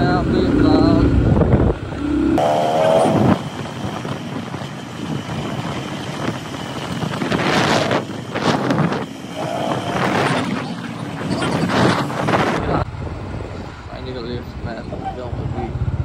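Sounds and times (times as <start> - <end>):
wind buffeting microphone: 0.0 - 14.8
motorcycle engine running: 0.0 - 16.0.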